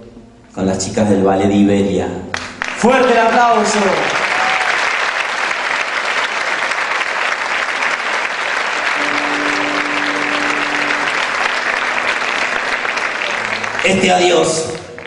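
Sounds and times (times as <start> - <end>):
audience applauding: 2.3 - 15.0.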